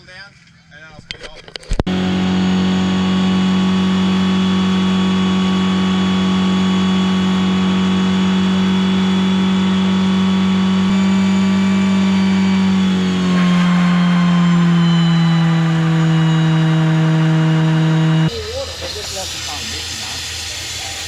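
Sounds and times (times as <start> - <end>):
car engine running: 1.8 - 21.0.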